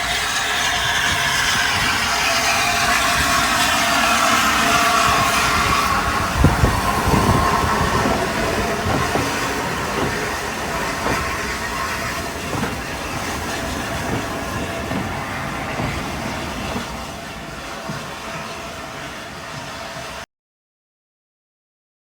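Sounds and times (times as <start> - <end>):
wheels clicking over rail joints: 0.0 - 20.1
steam train rolling past: 0.0 - 20.3.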